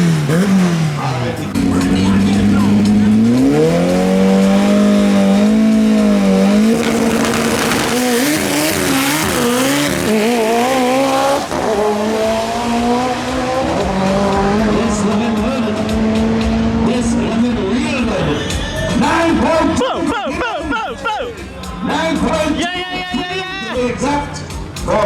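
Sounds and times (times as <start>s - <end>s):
drag car engine revving: 0.0s - 20.4s.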